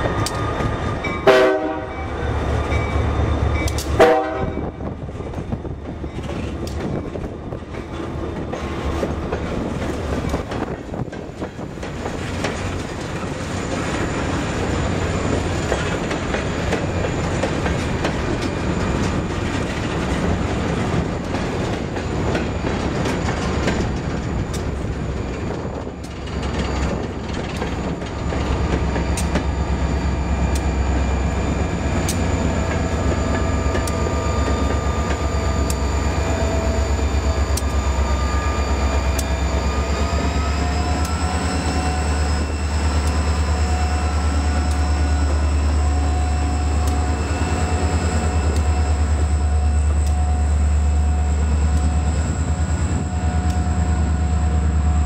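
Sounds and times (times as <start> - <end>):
train wheels clicking over rail joints: 0.0 - 1.2, 2.4 - 4.0, 5.0 - 54.6
diesel locomotive rumble and whine: 0.0 - 55.0.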